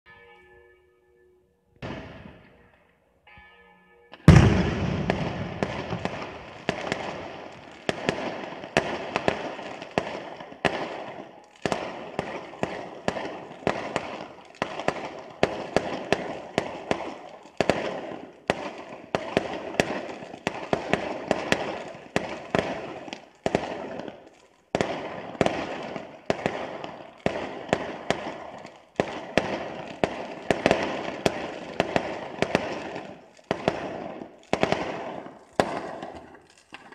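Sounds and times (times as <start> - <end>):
fireworks bangs echoing: 1.8 - 2.7, 4.1 - 36.9.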